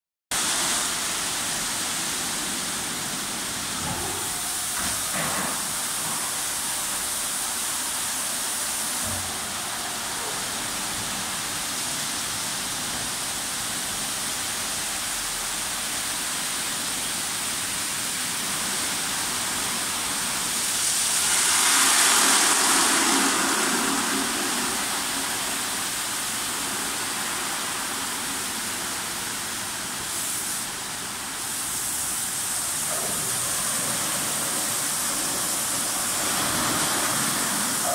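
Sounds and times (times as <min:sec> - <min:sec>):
car wash brush and water spray: 0:00.4 - 0:37.9.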